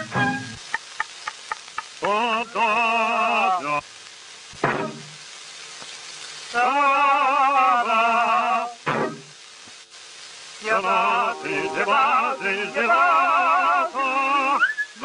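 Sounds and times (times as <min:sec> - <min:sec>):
film hiss: 0:00.0 - 0:15.0.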